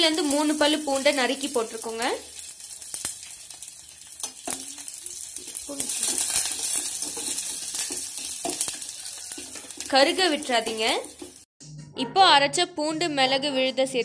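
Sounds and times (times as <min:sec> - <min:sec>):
spices sizzling in hot oil: 0:00.0 - 0:11.5.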